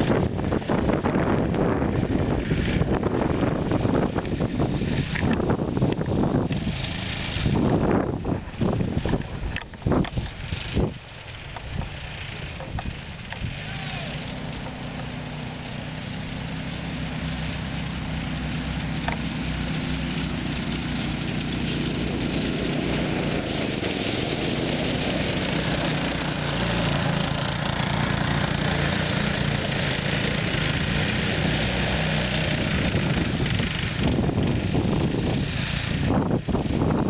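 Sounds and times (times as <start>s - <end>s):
go-kart engine running: 0.0s - 37.0s
wind gusting on microphone: 0.0s - 37.0s.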